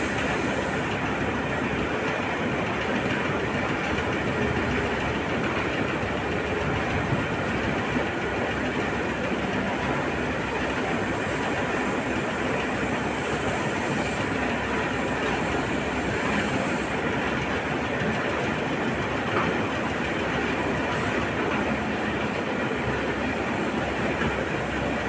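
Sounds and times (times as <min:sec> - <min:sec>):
diesel engines running under load: 0:00.0 - 0:25.0.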